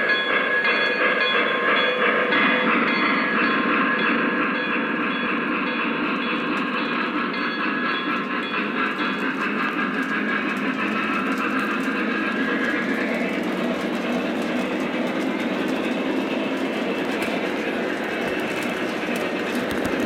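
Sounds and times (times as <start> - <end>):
model train wheels rumbling: 0.0 - 20.0
clatter over rail joints: 0.2 - 20.0.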